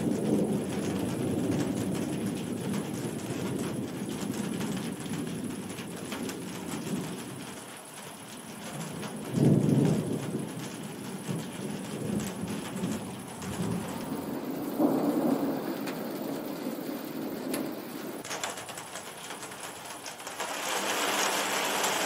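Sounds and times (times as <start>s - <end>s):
thunder rumbling: 0.0s - 18.8s
rain pattering: 0.0s - 22.0s.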